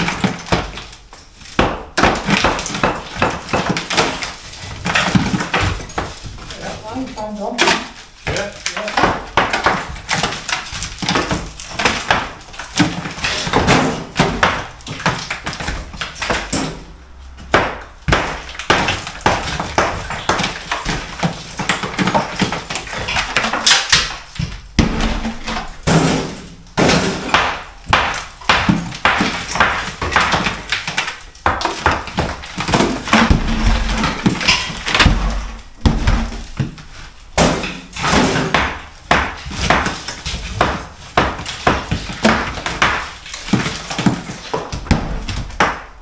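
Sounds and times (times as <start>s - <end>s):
bricks dropping and clattering: 0.0s - 6.8s, 7.4s - 16.9s, 17.6s - 46.0s
rubble scraping and clattering: 0.0s - 46.0s.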